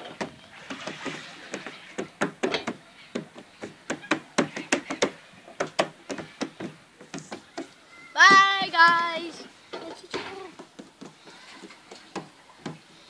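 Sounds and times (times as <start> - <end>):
irregular knocks and taps: 0.0 - 12.9.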